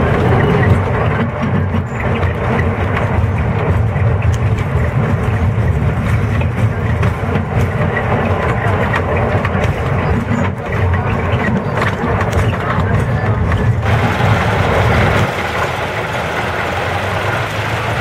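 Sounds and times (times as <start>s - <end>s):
train rumbling: 0.0s - 18.0s
wheel clicks on rails: 0.0s - 18.0s.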